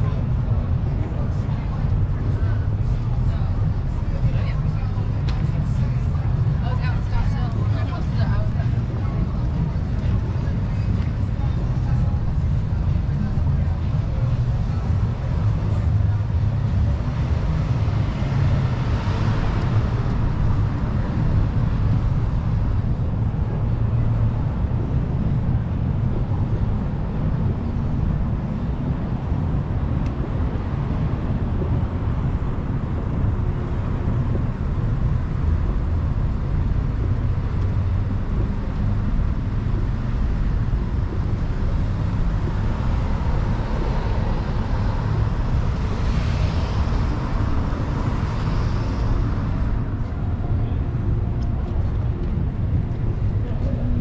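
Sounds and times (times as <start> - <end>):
road traffic noise: 0.0 - 54.0
wind rumbling on microphone: 0.0 - 54.0.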